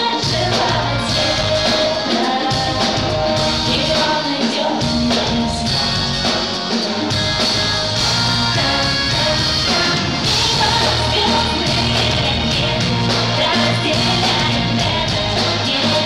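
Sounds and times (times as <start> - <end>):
live pop-rock band with singing: 0.0 - 16.0.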